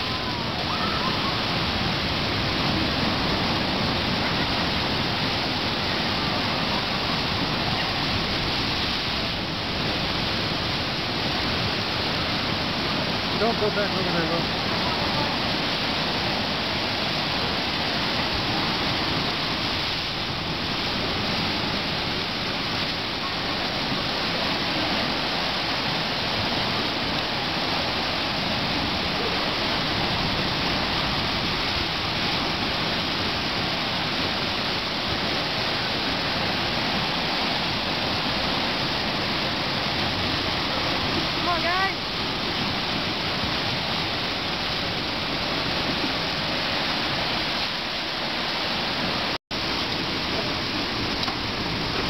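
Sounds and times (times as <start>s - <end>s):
surf churning over rocks: 0.0s - 52.0s.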